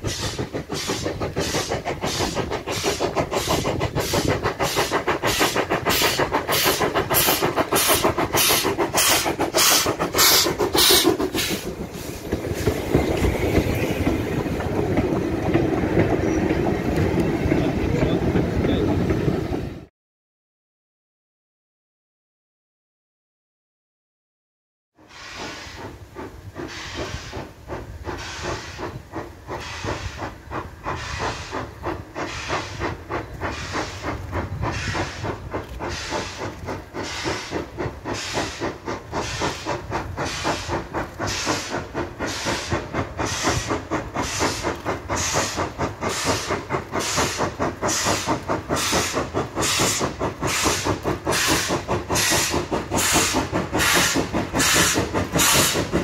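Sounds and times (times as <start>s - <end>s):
steam locomotive exhaust chuffing: 0.0s - 19.8s, 25.0s - 56.0s.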